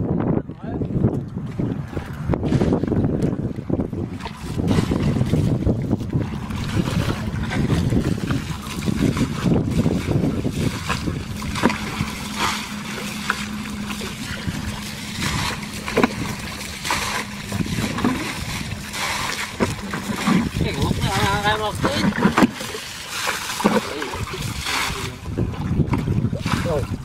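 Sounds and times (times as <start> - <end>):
steady low rumble: 0.0 - 27.0
muddy water sloshing and splashing: 0.4 - 27.0
water thrown out splashing: 4.1 - 27.0.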